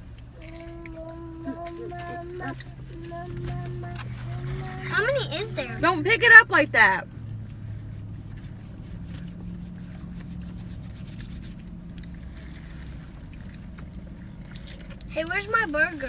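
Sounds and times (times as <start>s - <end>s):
faint clicks and rustles: 0.0s - 5.9s, 7.2s - 16.0s
car engine idling: 0.0s - 16.0s.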